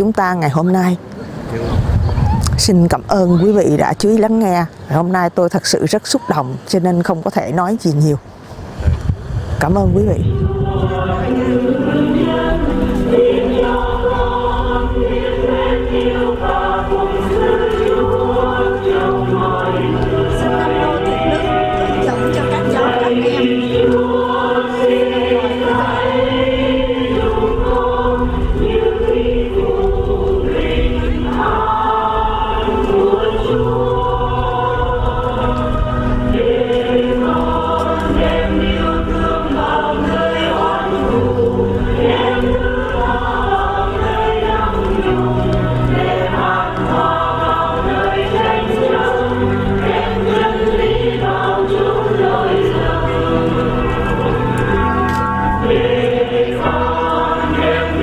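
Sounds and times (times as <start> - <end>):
choir singing slow song: 8.2 - 58.0
keyboard accompaniment: 9.9 - 58.0.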